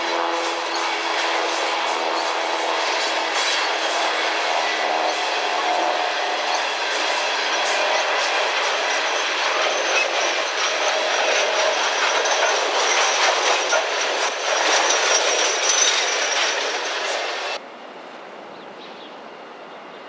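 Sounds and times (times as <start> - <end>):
train wheels clattering over rail joints: 0.4 - 17.6.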